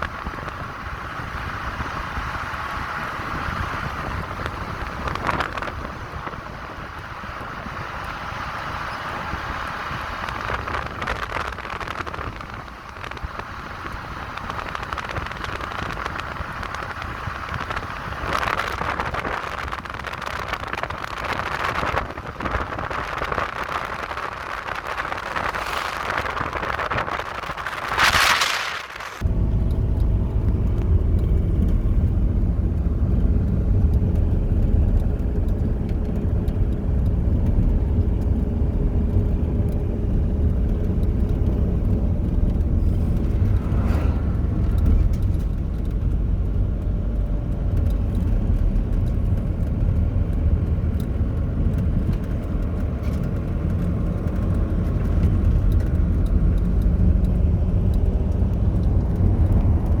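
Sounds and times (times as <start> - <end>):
motor vehicle engine rumbling: 0.0 - 60.0.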